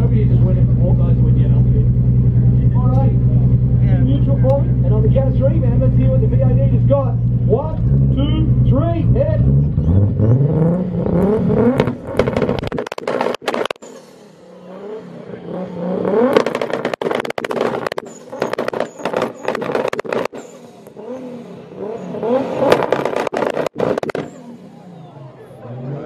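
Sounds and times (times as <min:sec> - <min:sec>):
exhaust crackling and popping: 0:00.0 - 0:14.2, 0:15.4 - 0:21.2, 0:21.8 - 0:24.4
car exhaust revving: 0:00.0 - 0:26.0.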